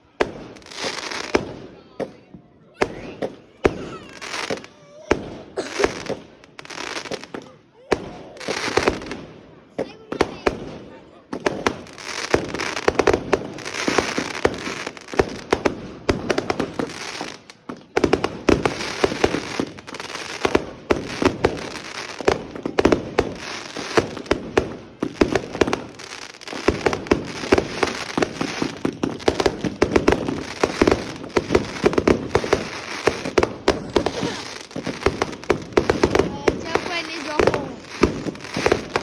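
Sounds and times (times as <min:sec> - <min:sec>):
fireworks cracking and popping: 0:00.0 - 0:39.0.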